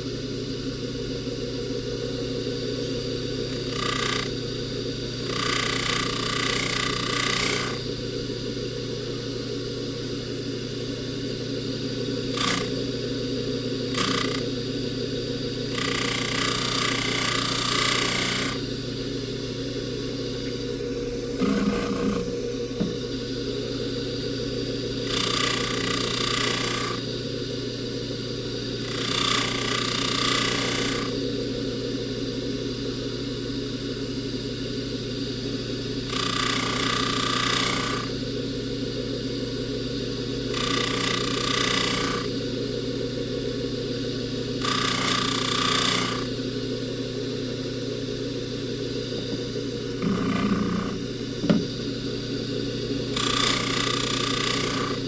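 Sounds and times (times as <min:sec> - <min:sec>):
polishing buffer motor humming: 0:00.0 - 0:55.0.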